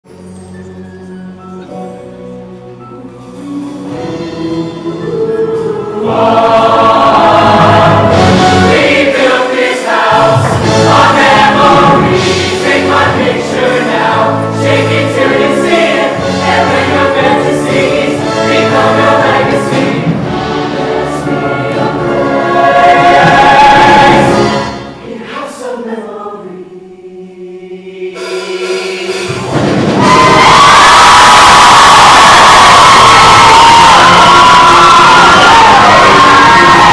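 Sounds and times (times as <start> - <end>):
choir singing with accompaniment: 2.7 - 36.9.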